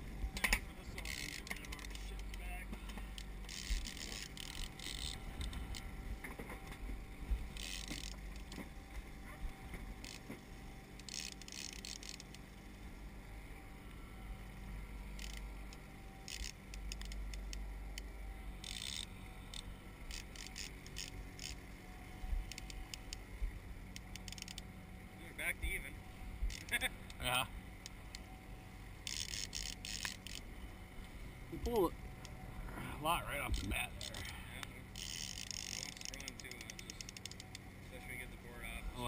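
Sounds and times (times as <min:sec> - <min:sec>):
outboard motor droning: 0:00.0 - 0:39.0.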